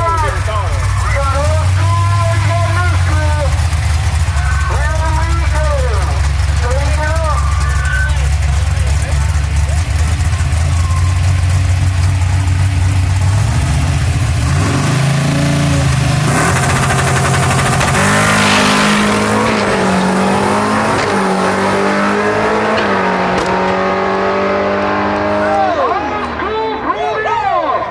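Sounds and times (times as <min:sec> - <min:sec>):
loud launch rush: 0:00.0 - 0:11.5, 0:14.6 - 0:27.0
cars accelerating through gears: 0:00.0 - 0:26.4
car engines idling and revving: 0:00.0 - 0:27.6.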